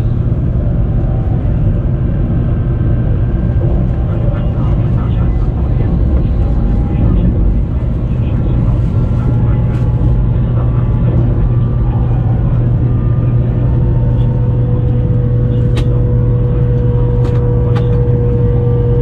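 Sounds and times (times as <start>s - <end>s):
train rumble from inside carriage: 0.0s - 19.0s.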